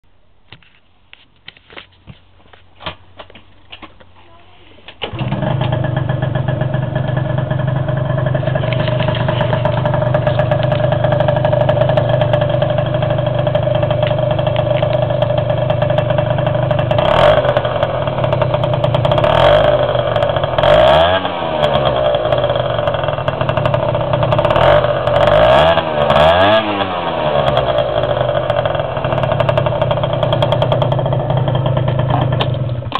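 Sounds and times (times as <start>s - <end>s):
scooter engine idling and revving: 5.0s - 32.9s.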